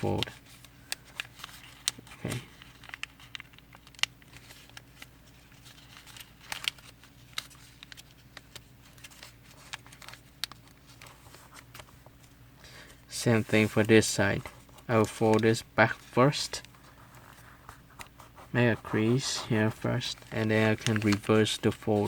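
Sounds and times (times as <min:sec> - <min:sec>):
paper crinkling and tapping: 0:00.0 - 0:22.0.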